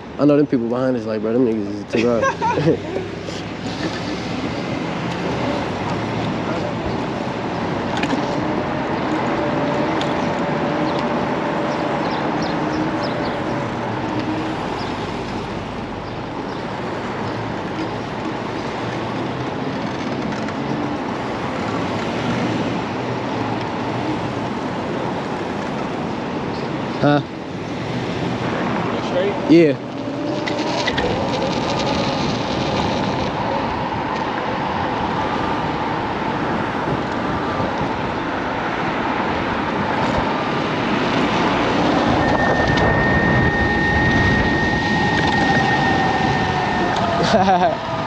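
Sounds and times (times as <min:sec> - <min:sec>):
road and wind noise: 0:00.0 - 0:48.0.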